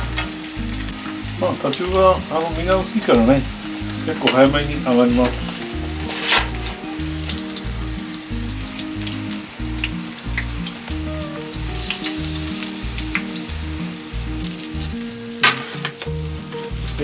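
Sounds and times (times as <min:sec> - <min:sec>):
background music with bass: 0:00.0 - 0:17.0
fish deep-frying in oil: 0:00.0 - 0:17.0.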